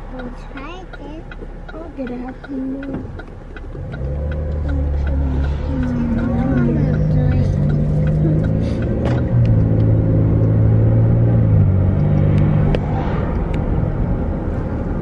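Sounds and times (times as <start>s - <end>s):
car engine from inside cabin: 0.0s - 15.0s
road rumble: 0.0s - 15.0s.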